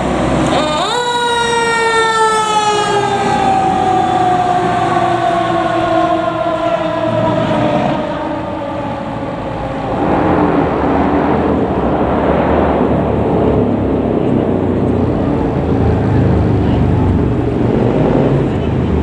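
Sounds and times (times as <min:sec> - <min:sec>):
fire truck driving past: 0:00.0 - 0:19.0
siren winding down: 0:00.2 - 0:18.3.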